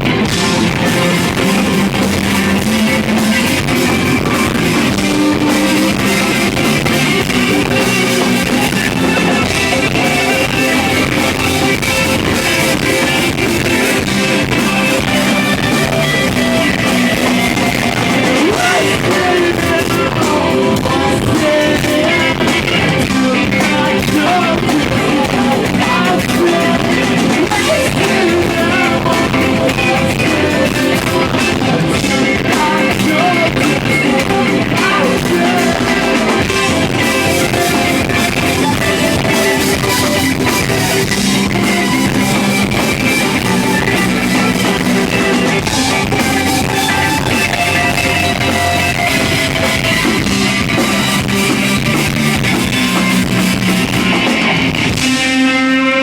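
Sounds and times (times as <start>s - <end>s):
person singing: 0.0s - 53.0s
drum kit: 0.0s - 56.0s
electric guitars: 0.0s - 56.0s.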